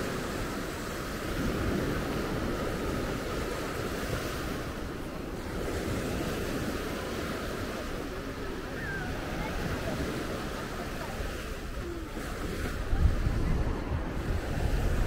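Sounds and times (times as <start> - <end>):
surf washing up beach: 0.0 - 15.0
wind rumbling on microphone: 0.0 - 15.0.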